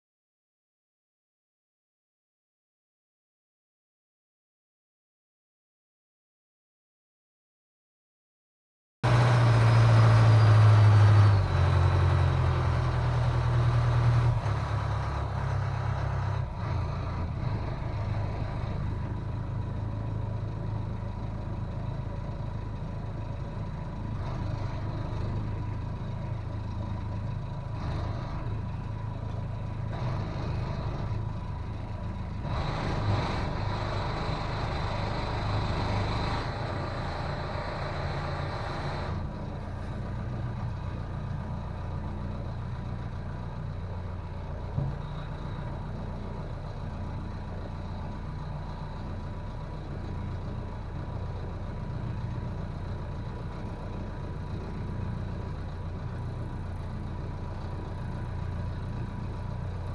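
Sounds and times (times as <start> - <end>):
small boat engine: 9.0 - 59.9.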